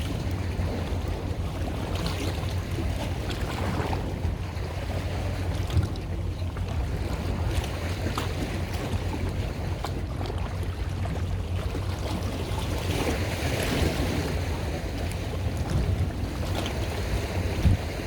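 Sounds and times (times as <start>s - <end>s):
water and waves: 0.0s - 18.0s
wind buffeting microphone: 0.0s - 18.0s.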